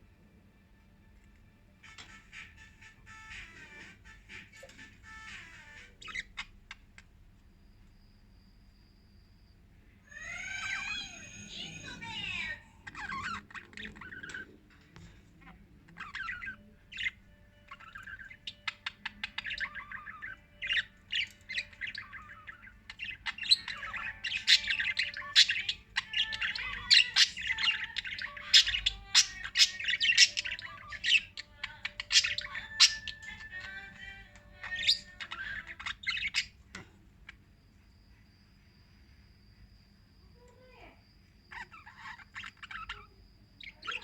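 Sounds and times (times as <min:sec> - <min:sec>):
lovebirds chirping and squawking: 0:01.8 - 0:39.8, 0:40.4 - 0:44.0.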